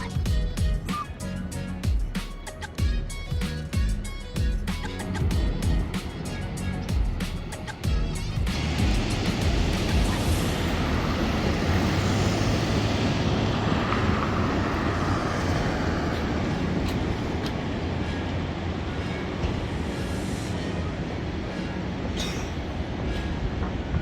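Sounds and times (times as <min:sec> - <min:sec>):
rushing noise: 0:00.0 - 0:24.0
low rumble: 0:02.8 - 0:24.0.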